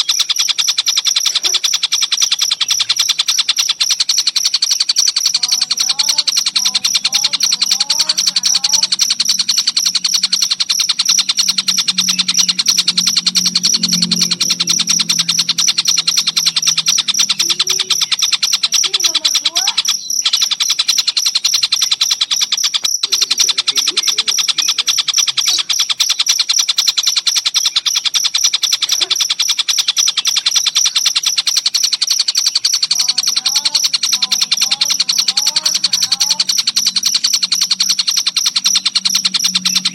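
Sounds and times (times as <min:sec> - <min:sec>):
bird calls: 0:00.0 - 0:39.9
crickets chirping: 0:00.0 - 0:39.9.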